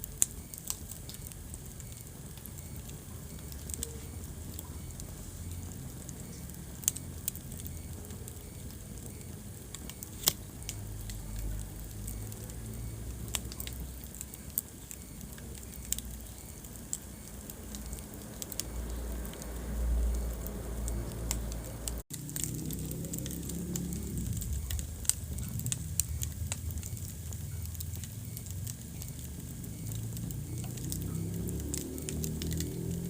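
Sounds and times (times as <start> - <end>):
fire crackling and popping: 0.0 - 33.0
rumble of flames: 0.0 - 33.0.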